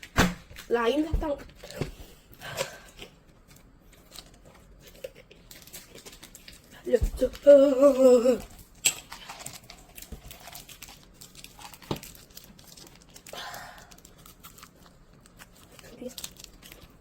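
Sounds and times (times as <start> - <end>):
plastic wrapper crinkling: 3.0 - 17.0.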